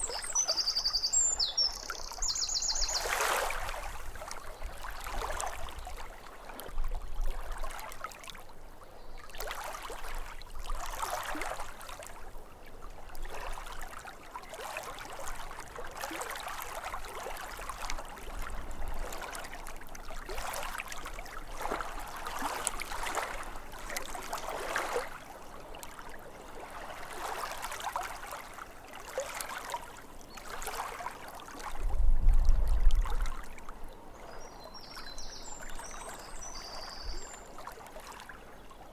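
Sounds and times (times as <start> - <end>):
small waves lapping: 0.0 - 38.9.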